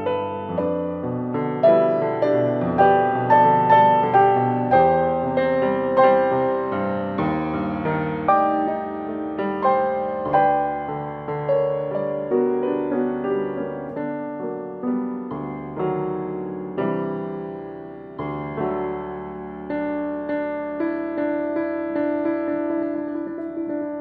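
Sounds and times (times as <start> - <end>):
solo piano improvisation: 0.0 - 24.0.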